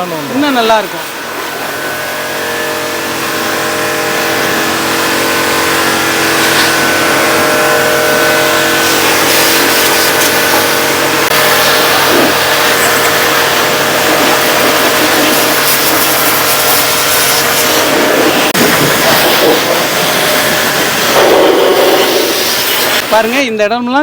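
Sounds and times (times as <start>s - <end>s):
water jet spraying: 0.0s - 23.6s
pressure washer motor hum: 0.0s - 23.8s.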